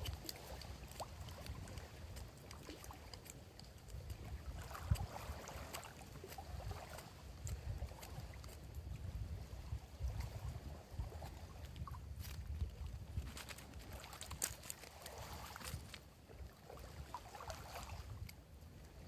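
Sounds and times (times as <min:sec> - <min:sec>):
small crackles and ticks: 0:00.0 - 0:09.2, 0:11.2 - 0:16.5, 0:18.1 - 0:19.0
lake waves lapping: 0:00.0 - 0:19.0
wind rumbling on microphone: 0:00.0 - 0:19.0.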